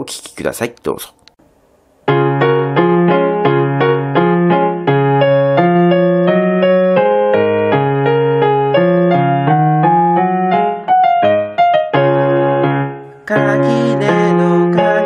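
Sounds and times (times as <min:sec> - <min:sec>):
electronic keyboard melody: 0:02.1 - 0:15.0.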